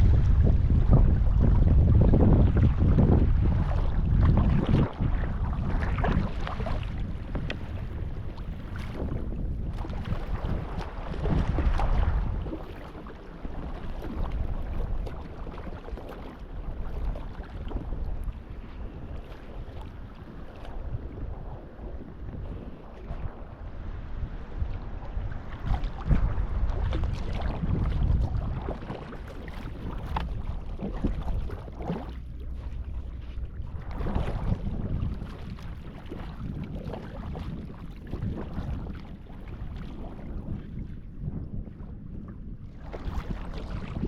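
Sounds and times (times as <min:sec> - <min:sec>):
water sloshing and splashing: 0:00.0 - 0:44.0
wind buffeting microphone: 0:00.0 - 0:44.0.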